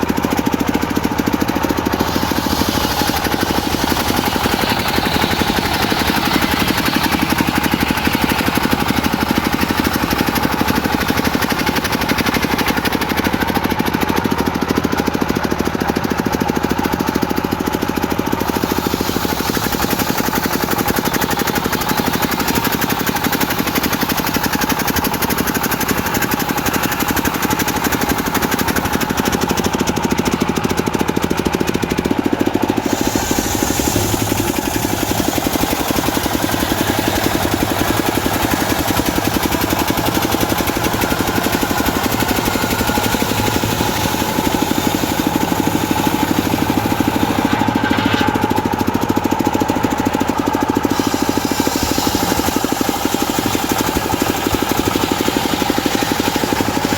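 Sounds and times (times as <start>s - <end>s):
diesel engine running loudly: 0.0s - 56.9s.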